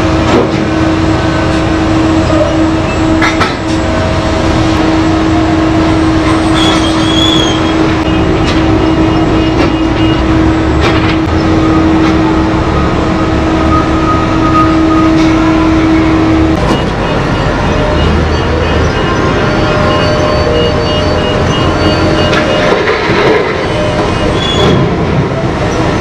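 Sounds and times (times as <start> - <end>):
heavy mining machinery running: 0.0 - 26.0.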